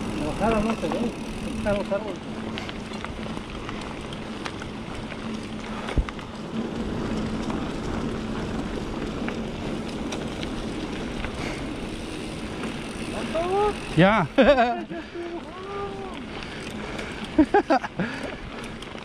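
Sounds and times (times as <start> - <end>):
bike tyre noise on dirt: 0.0 - 19.0
small clicks and rattles: 0.0 - 19.0.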